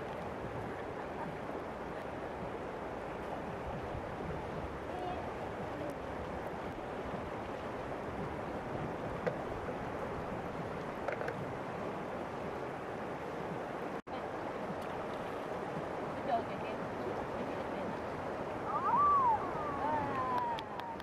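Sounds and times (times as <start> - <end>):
river flowing over stones: 0.0 - 21.0.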